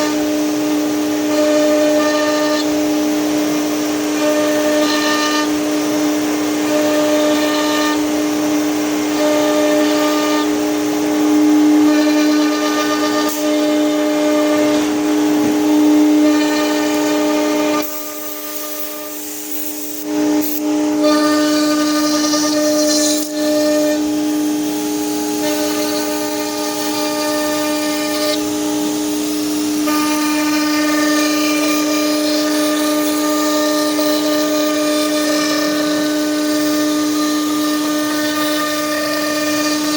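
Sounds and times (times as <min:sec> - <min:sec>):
cnc machine whine: 0:00.0 - 0:39.9
higher machine tones: 0:00.0 - 0:39.9.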